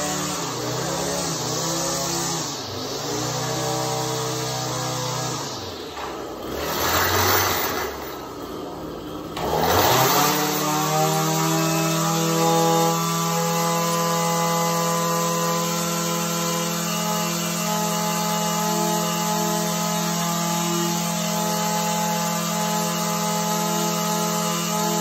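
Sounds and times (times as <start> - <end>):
string trimmer engine revving: 0.0 - 25.0.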